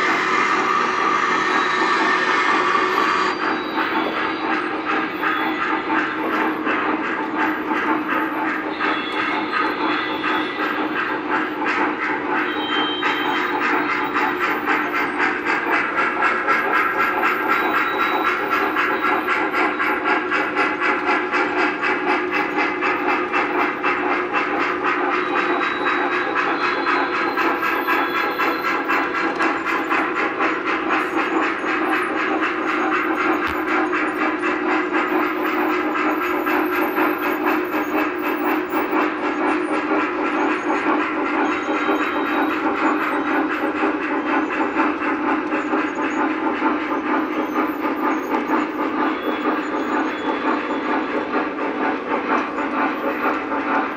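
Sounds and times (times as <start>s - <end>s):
model train running noise: 0.0s - 53.9s
steam locomotive chuffing: 0.0s - 53.9s.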